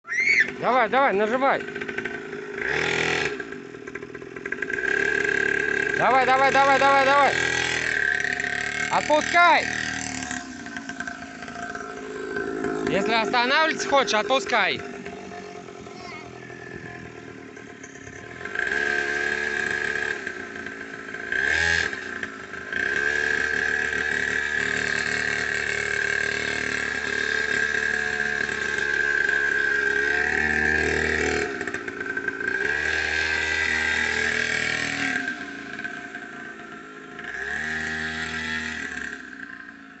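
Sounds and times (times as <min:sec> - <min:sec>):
small motorbike engine revving: 0:00.0 - 0:40.0.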